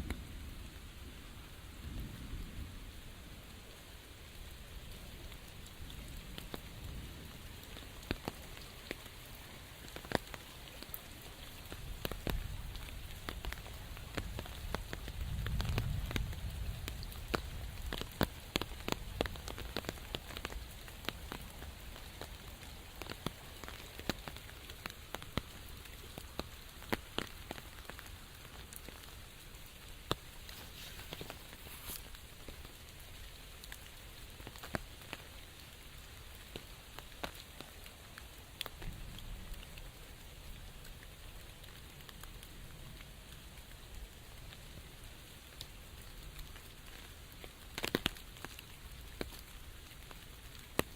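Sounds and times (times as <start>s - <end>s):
large raindrops striking: 0.0s - 50.9s
steady rain falling: 0.0s - 50.9s.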